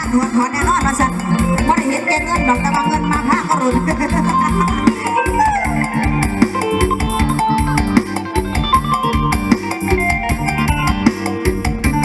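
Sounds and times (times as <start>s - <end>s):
steady dance beat: 0.0s - 12.0s
stepping bass line: 0.0s - 12.0s
plucked-string lead with sliding notes: 1.1s - 12.0s.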